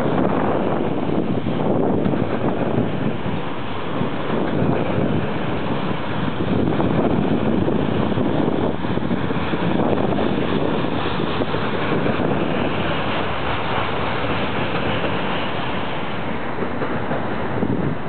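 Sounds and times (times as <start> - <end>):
steel wheels on rails: 0.0 - 18.0.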